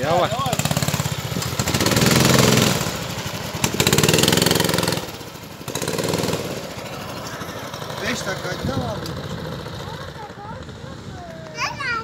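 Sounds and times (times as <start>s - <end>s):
go-kart engines running: 0.0s - 12.0s.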